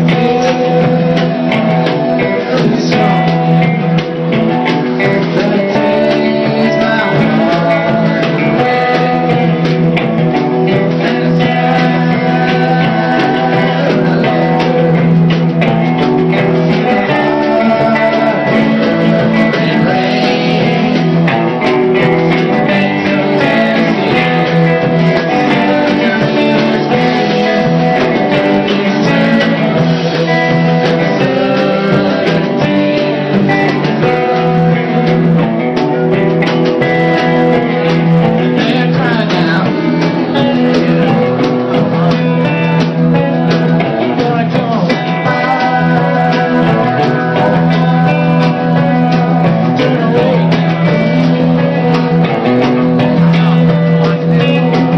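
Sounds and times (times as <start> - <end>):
electric guitar: 0.0 - 54.9
rock band playing live: 0.0 - 54.9.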